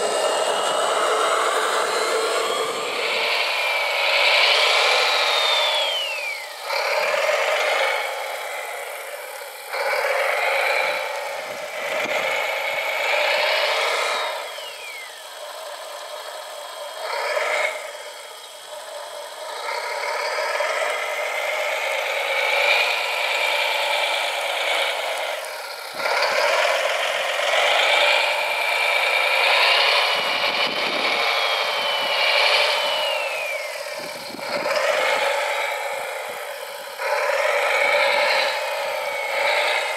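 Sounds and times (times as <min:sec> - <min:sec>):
falling motor whine: 0:00.0 - 0:39.9
whirring electric motors: 0:00.0 - 0:39.9.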